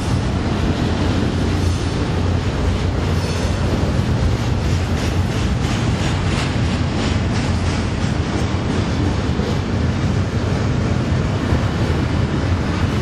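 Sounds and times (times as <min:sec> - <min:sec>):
steel wheels rumbling on rail: 0:00.0 - 0:13.0
wheels clacking over rail joints: 0:00.0 - 0:13.0.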